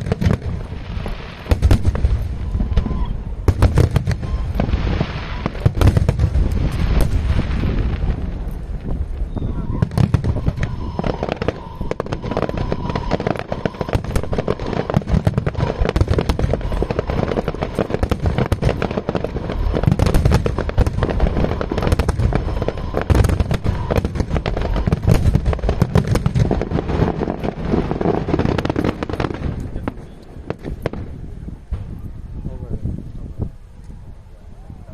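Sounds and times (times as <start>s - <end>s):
fireworks cracking and crackling: 0.0s - 34.0s
low fireworks booms: 0.0s - 34.9s.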